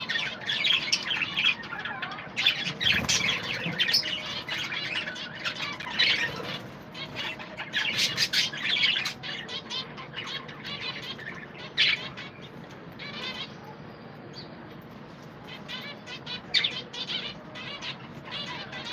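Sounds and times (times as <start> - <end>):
budgerigars chattering and chirping: 0.0 - 14.6, 15.4 - 18.9.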